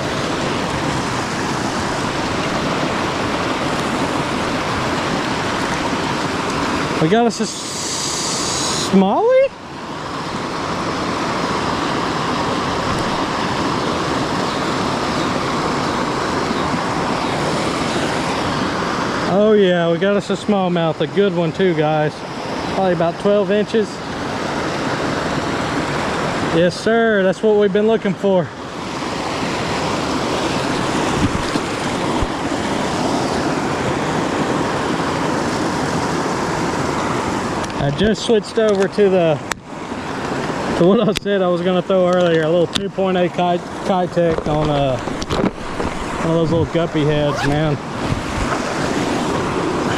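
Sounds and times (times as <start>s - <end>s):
creek water flowing over rocks: 0.0s - 49.9s.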